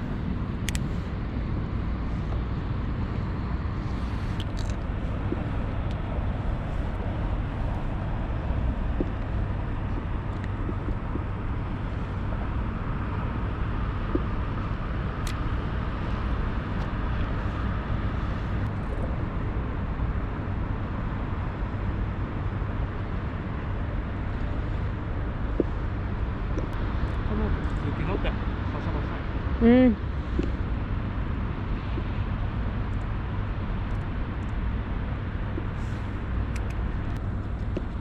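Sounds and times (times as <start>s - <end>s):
low rumbling background noise: 0.0s - 38.0s.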